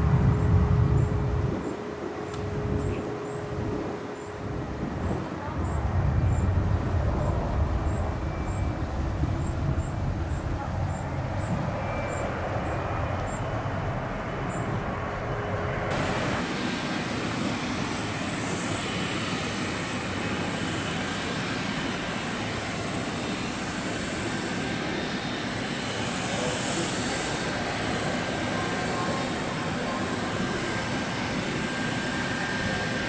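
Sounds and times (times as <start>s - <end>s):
deep jet engine rumble: 0.0s - 33.0s
jet engine rush with fan whine: 0.0s - 33.0s.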